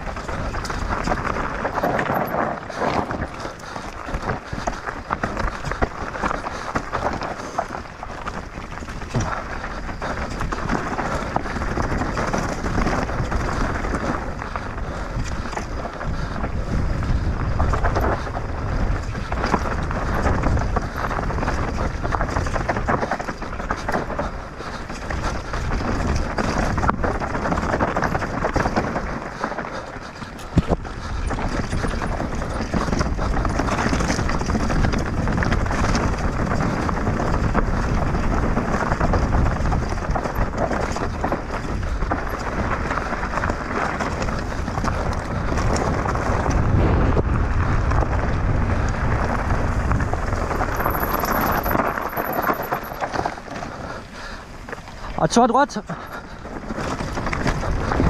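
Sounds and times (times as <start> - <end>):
bike frame and chain rattling: 0.0 - 58.0
tyres on rock and gravel: 0.0 - 58.0.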